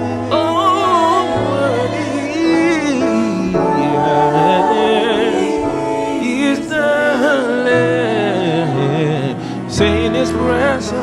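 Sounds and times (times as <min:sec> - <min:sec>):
held chords: 0:00.0 - 0:11.0
person singing: 0:00.0 - 0:11.0.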